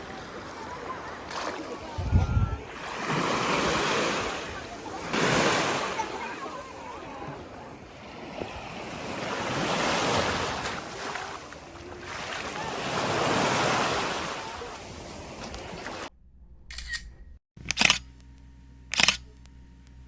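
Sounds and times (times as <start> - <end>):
sea waves washing onto shore: 0.0 - 16.1.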